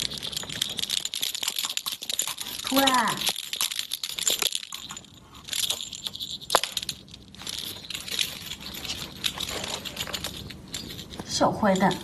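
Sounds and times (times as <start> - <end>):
small jingle bell jingling: 0.0 - 12.0.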